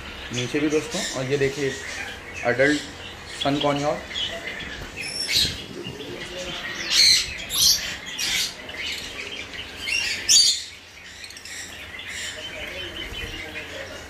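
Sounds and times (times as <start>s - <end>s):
conures squawking: 0.0s - 14.0s.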